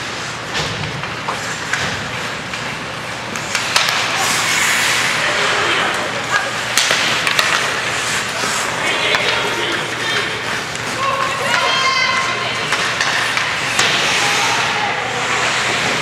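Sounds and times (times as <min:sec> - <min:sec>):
skate blades scraping ice: 0:00.0 - 0:16.0
sticks and puck clacking: 0:00.0 - 0:16.0.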